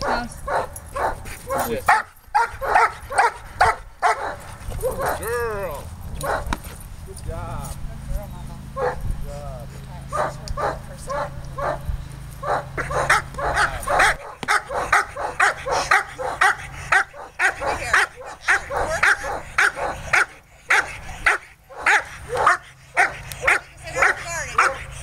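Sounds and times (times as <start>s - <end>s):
dog barking: 0.0s - 5.4s, 6.2s - 6.6s, 8.8s - 9.0s, 10.1s - 11.8s, 12.4s - 24.9s.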